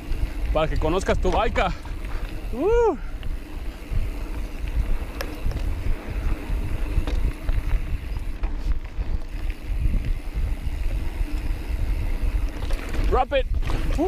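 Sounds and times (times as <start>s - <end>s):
bike rattling over rocks: 0.0s - 14.0s
bike tyre and frame noise: 0.0s - 14.0s
wind rumble on microphone: 0.0s - 14.0s.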